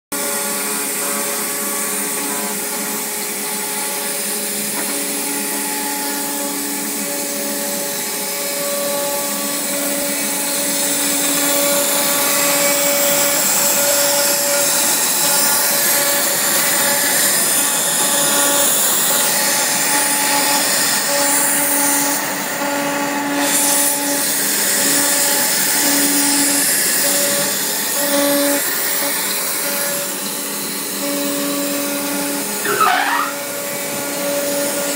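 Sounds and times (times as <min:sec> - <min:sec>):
pitched machine hum: 0:00.1 - 0:34.9
router cutting sheet: 0:00.1 - 0:34.9.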